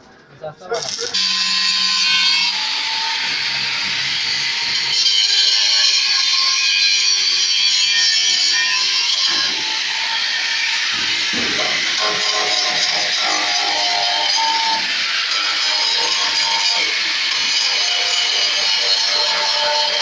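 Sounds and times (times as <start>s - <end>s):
angle grinder grinding metal: 0.8s - 20.0s.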